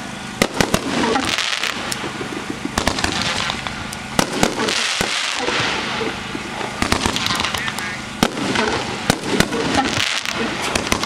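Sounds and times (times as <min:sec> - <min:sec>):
fireworks crackling hiss: 0:00.0 - 0:11.0
fireworks sharp reports: 0:00.0 - 0:11.0.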